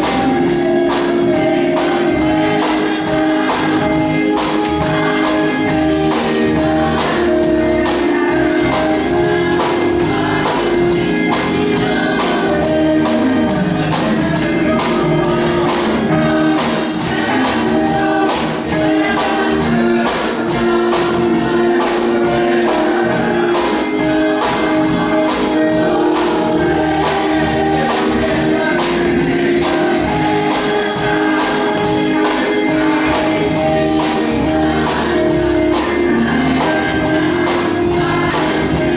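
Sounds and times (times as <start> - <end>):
choir singing sustained chords: 0.0 - 38.9.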